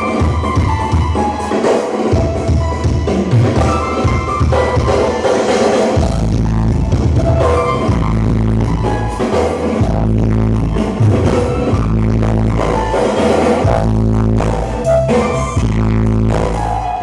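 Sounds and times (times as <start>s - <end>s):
loud music with drums and bass: 0.0s - 17.0s.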